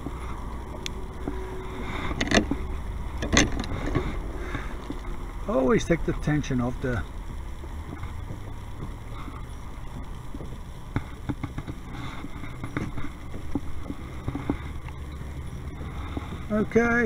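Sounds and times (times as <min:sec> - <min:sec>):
gear clicking and knocking: 0:02.1 - 0:17.0.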